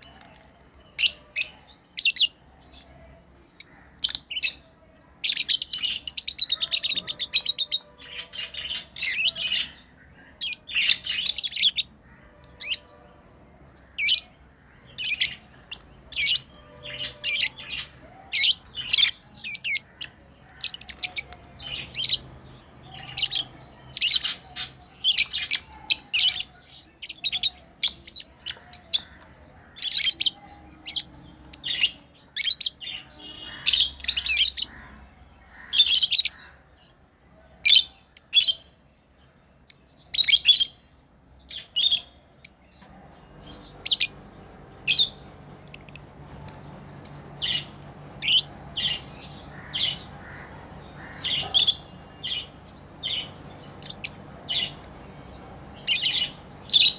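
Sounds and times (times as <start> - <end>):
lovebirds chirping: 0.0 - 56.9.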